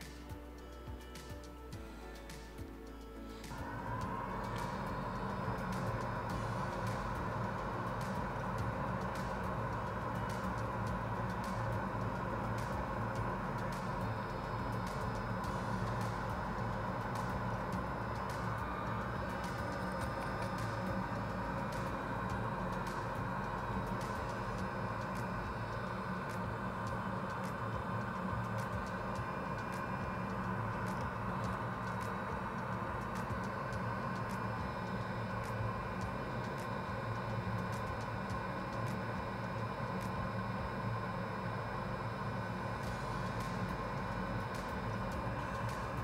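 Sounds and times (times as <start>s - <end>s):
background hum and hiss: 0.0s - 46.0s
faint irregular ticks: 0.0s - 46.0s.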